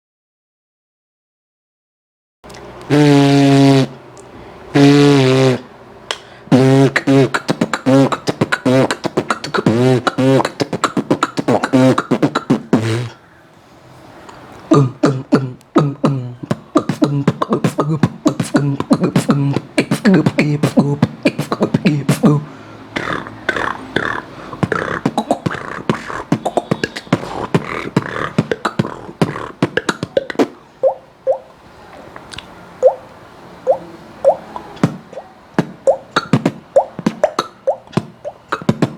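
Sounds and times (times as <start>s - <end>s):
beatboxing vocal sound effects: 2.9s - 4.0s, 4.7s - 13.2s, 14.7s - 31.5s, 33.7s - 38.9s.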